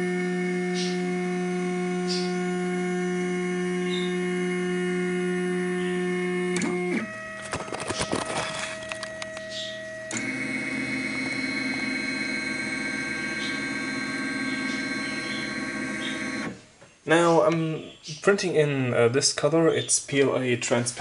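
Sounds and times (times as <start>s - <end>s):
printer stepper motors whining: 0.0s - 17.5s.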